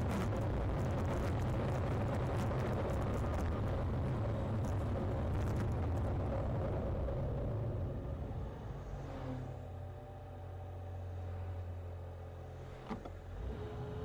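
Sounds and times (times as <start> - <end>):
car driving on open road: 0.0 - 14.0.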